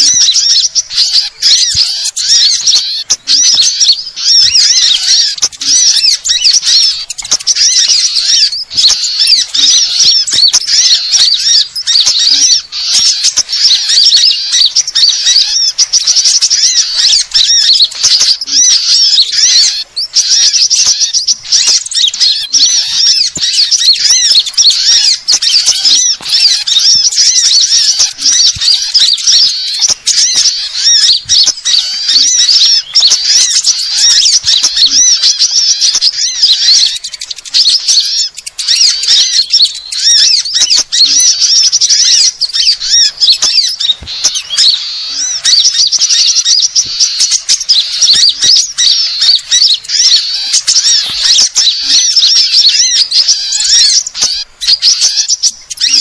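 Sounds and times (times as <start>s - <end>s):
songbirds chattering and twittering: 0.0s - 56.0s.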